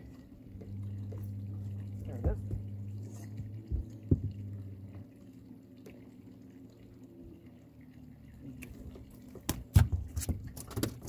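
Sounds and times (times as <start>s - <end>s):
steady low hum: 0.0s - 10.2s
water dripping and trickling: 0.0s - 11.0s.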